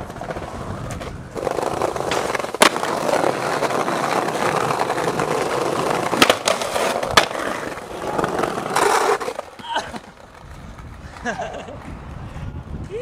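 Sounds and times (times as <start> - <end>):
skateboard clacks: 0.0 - 12.2
skateboard wheels rolling on paving: 0.0 - 13.0.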